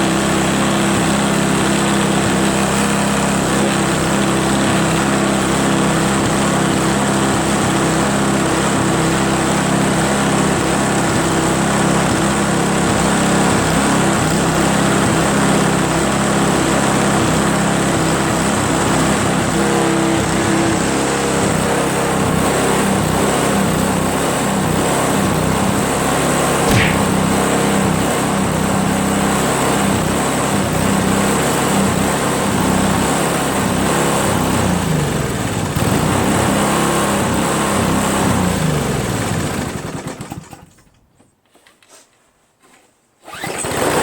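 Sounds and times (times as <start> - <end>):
snowblower engine running: 0.0 - 40.8.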